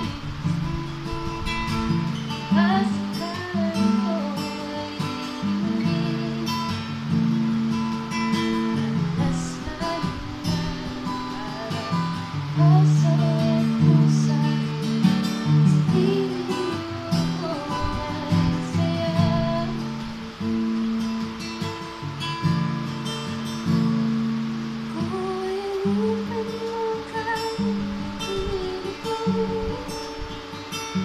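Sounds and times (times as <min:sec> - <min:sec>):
acoustic guitar chords: 0:00.0 - 0:31.0.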